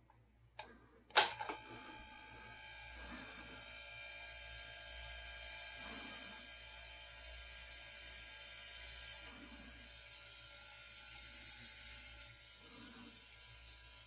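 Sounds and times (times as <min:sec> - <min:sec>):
air compressor running with hiss: 0:01.2 - 0:14.0.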